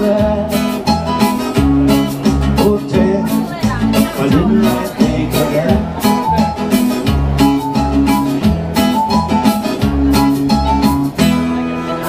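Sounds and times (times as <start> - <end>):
acoustic guitar strumming: 0.0 - 12.0
keyboard: 0.0 - 12.0
low bass notes: 0.0 - 12.0.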